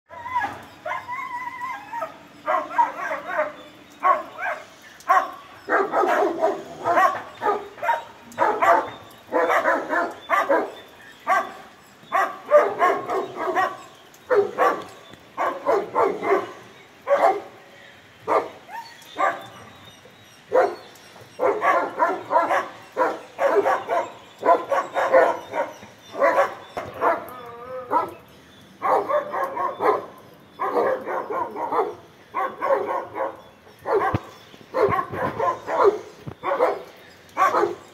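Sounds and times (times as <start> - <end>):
dogs barking: 0.1 - 17.6, 18.2 - 19.8, 20.4 - 37.9.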